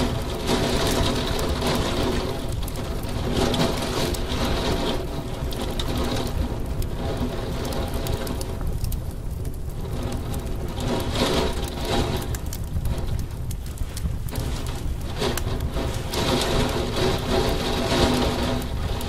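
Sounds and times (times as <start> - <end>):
heavy rain on window glass: 0.0 - 19.0.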